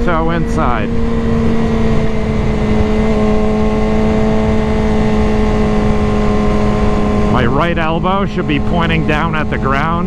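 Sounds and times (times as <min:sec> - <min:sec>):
motorcycle engine running: 0:00.0 - 0:10.0
wind noise: 0:00.0 - 0:10.0.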